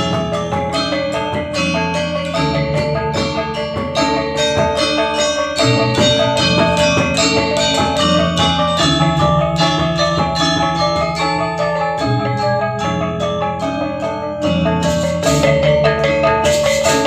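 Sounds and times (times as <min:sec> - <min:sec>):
metallophones struck rapidly: 0:00.0 - 0:17.0.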